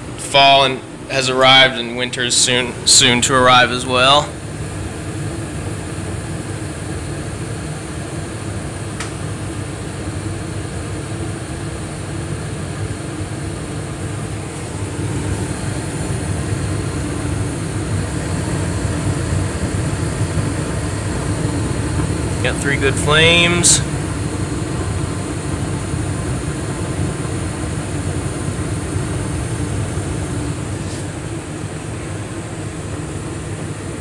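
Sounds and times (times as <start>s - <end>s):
furnace low rushing hum: 0.0s - 34.0s.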